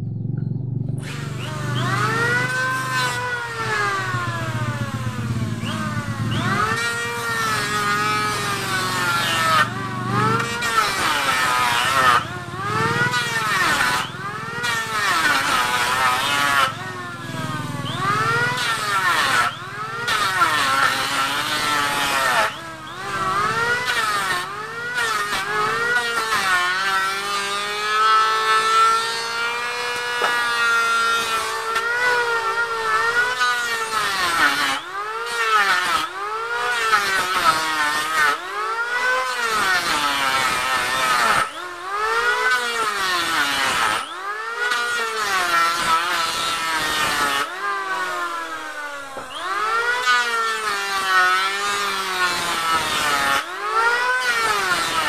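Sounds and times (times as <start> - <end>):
electric planer cutting wood: 0.9 - 55.0.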